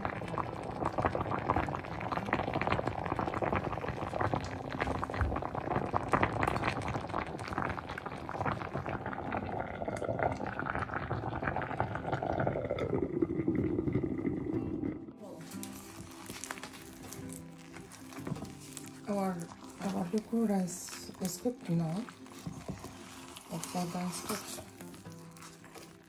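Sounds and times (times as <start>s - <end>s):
thick food bubbling in a pot: 0.0s - 26.0s.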